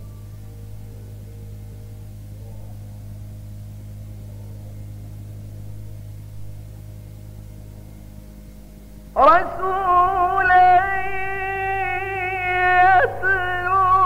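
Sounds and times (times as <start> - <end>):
faint high ringing tones: 0.0 - 14.0
low electrical mains hum: 0.0 - 14.0.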